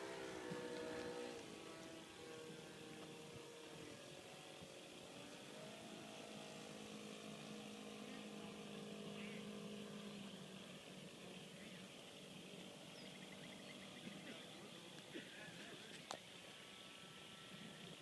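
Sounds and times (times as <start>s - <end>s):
distant model plane engine droning: 0.0s - 18.0s.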